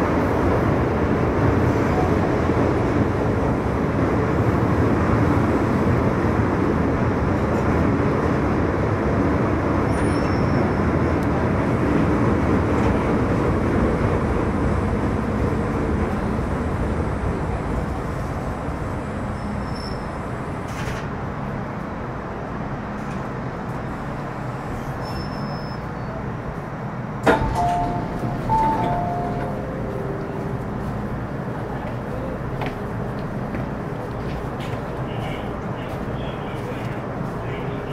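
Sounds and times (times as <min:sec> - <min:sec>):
train wheel and running noise: 0:00.0 - 0:37.9.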